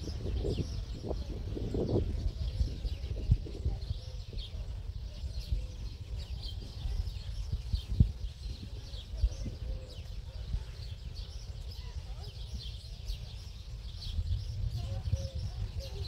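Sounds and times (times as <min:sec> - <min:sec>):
bird chirping and twittering: 0:00.0 - 0:16.0.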